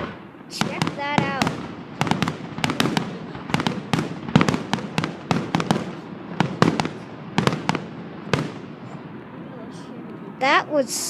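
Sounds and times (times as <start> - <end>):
fireworks banging: 0.0 - 9.3.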